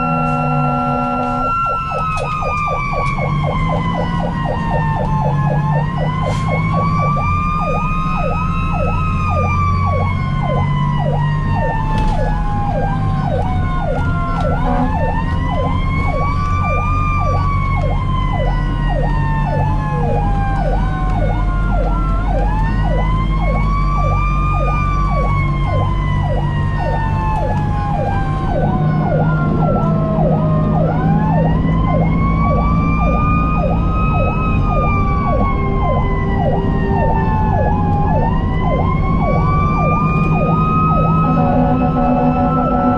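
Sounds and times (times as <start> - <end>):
fire engine siren yelp and wail: 0.0 - 42.9
truck engine droning: 0.0 - 42.9.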